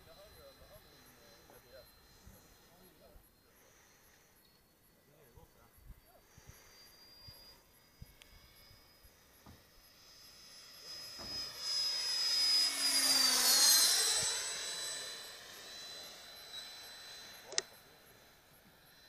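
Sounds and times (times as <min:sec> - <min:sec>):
model jet whine flying past: 0:00.0 - 0:19.0.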